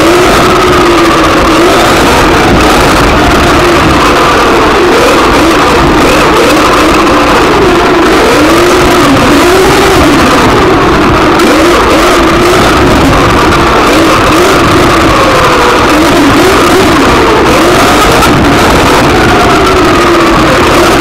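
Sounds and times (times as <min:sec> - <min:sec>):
rc car motor revving: 0:00.0 - 0:21.0.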